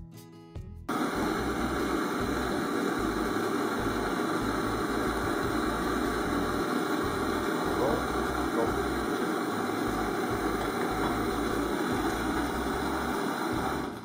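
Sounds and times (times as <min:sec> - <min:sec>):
gas blowtorch hissing: 0:00.9 - 0:14.0.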